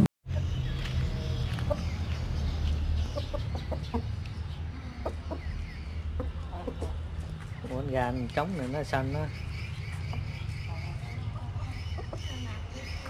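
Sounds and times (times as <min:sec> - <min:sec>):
rooster and hens clucking: 0:00.3 - 0:13.0.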